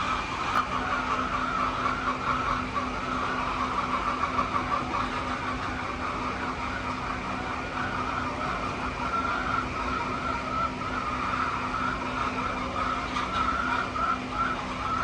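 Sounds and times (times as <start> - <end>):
flock of hens chattering: 0.0 - 15.0
steady low hum: 0.0 - 15.0.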